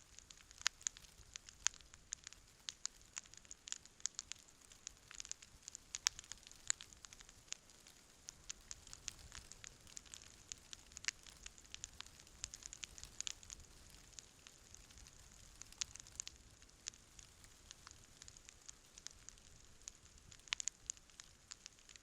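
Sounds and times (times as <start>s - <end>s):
campfire crackling and popping: 0.0s - 22.0s
low hiss of burning: 0.0s - 22.0s.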